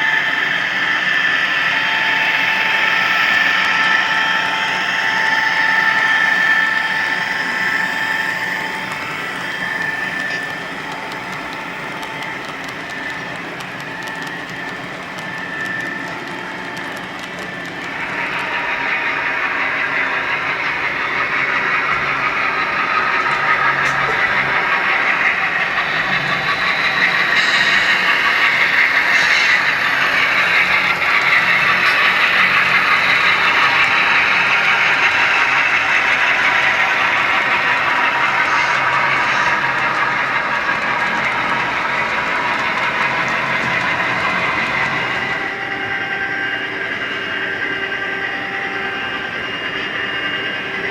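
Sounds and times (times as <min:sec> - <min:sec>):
model train whirring: 0:00.0 - 0:50.9.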